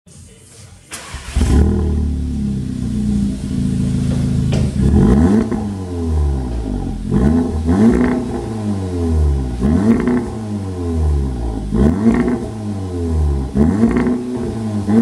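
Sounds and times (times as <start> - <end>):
car engine starting and idling: 0.9 - 15.0
engine revving: 1.0 - 15.0.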